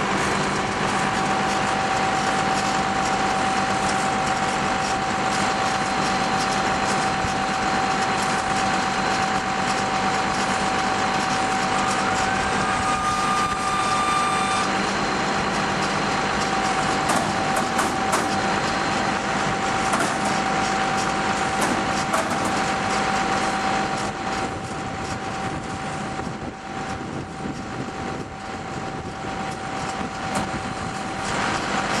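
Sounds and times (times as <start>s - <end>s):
baler mechanical clatter: 0.0s - 32.0s
tractor engine: 0.0s - 32.0s.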